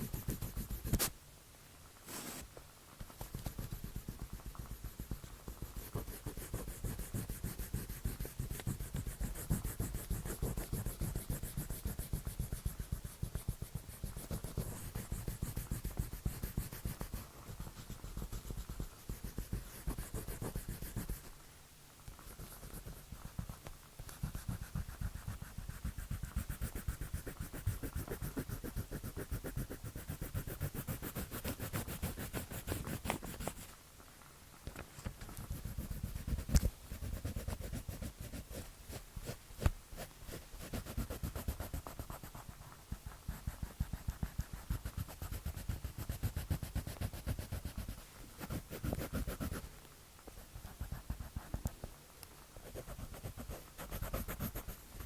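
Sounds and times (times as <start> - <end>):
drawing tool scratching on paper: 0.0 - 1.1, 3.2 - 21.3, 22.2 - 33.8, 35.3 - 49.7, 50.3 - 51.8, 52.6 - 55.0.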